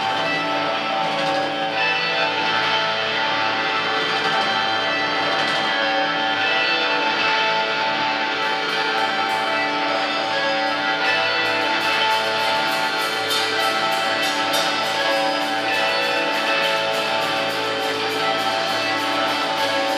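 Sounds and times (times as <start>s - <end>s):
cymbal struck steadily: 0.0s - 19.9s
electric guitar chords: 0.0s - 19.9s.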